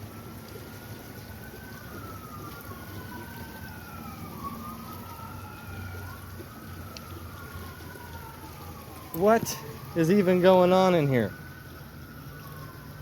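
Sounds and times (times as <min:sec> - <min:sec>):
creek water rushing: 0:00.0 - 0:13.0
distant siren wailing: 0:00.0 - 0:13.0.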